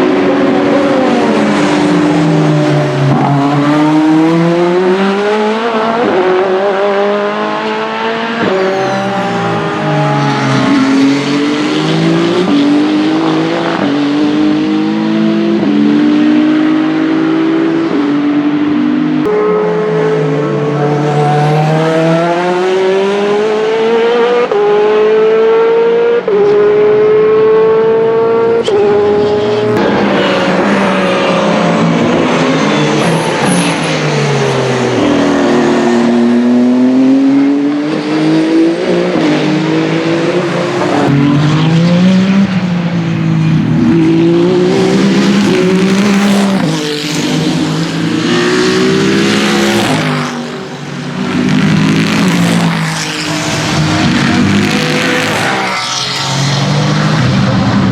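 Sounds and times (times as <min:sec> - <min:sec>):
race cars at full throttle: 0:00.0 - 0:57.9.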